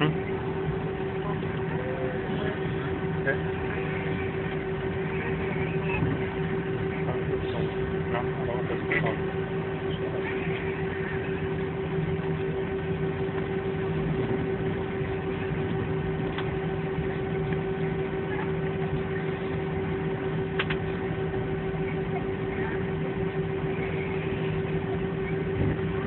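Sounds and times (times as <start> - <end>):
jet airliner cabin drone: 0.0 - 26.0.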